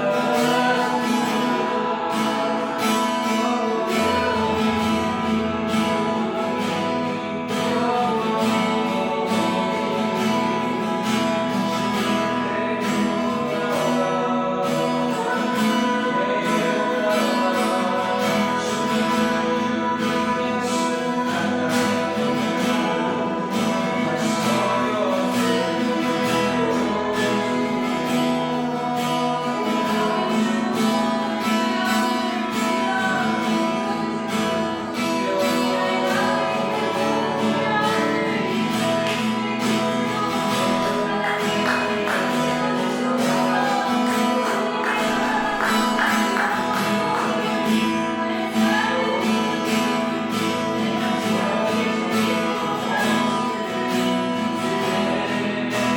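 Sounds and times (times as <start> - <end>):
acoustic guitar strumming: 0.0 - 55.9
person singing: 0.0 - 55.9.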